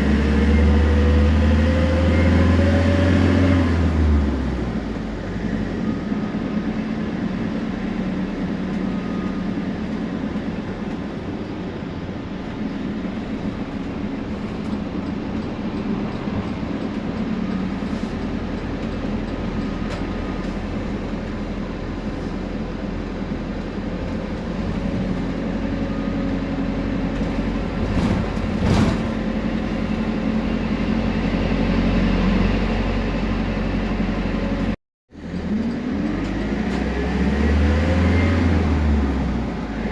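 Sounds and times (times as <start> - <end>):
bus engine hum: 0.0 - 39.9.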